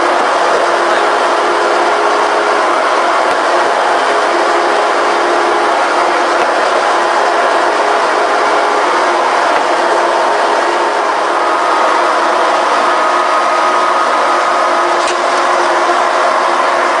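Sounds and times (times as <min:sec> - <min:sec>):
punching machine running: 0:00.0 - 0:17.0.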